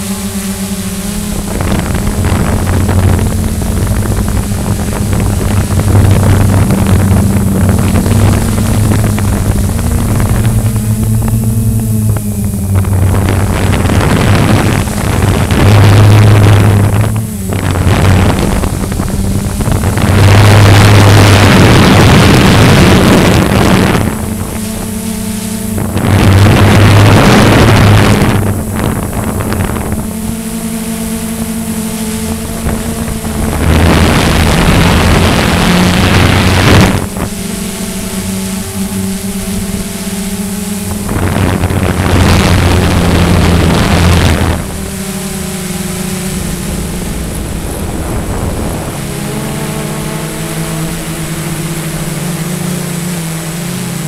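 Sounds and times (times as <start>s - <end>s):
drone motors humming: 0.0s - 54.0s
wind noise on microphone: 0.0s - 54.0s.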